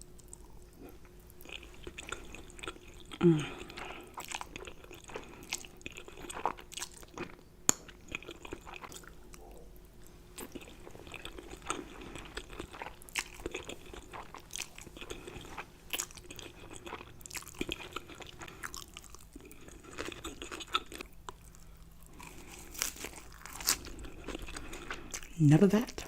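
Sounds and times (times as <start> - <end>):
chewing and mouth sounds: 0.0 - 26.0.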